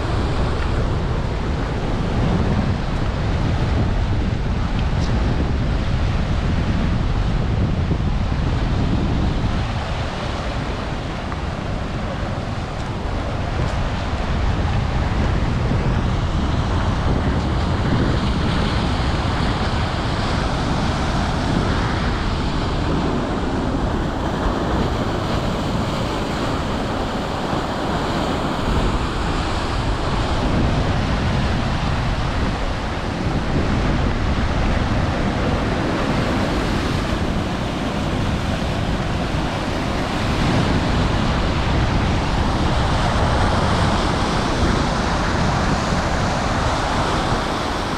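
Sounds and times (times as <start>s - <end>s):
sea waves: 0.0s - 47.9s
wind: 0.0s - 47.9s
wind buffeting microphone: 0.0s - 47.9s.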